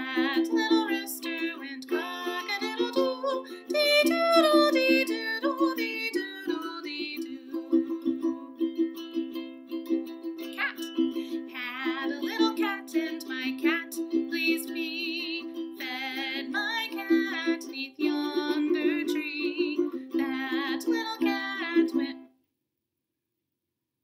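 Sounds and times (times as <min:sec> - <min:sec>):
woman singing: 0:00.0 - 0:08.9, 0:10.4 - 0:22.3
ukulele strumming chords: 0:00.0 - 0:22.2.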